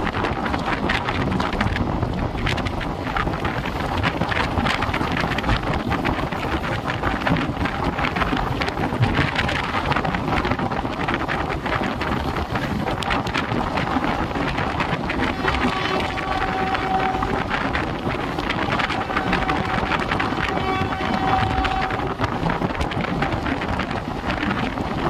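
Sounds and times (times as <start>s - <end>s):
train coach rumble: 0.0s - 25.0s
wheels clicking on rails: 0.0s - 25.0s
wind buffeting microphone: 0.0s - 25.0s.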